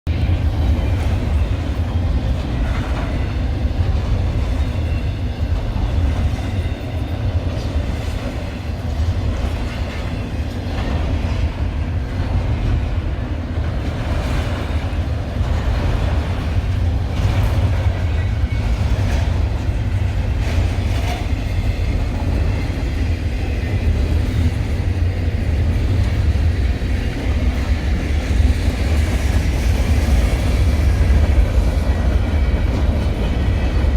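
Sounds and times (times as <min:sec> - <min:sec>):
freight train rumbling: 0:00.0 - 0:33.9
wheels clacking over track joints: 0:00.2 - 0:33.9.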